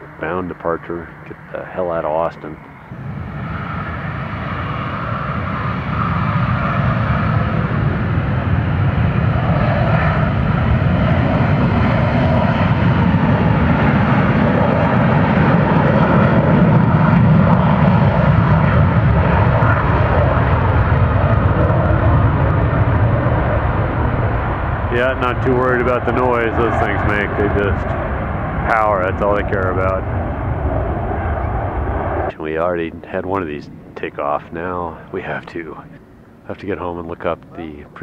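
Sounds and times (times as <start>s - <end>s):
military jet engines roaring: 0.0s - 38.0s.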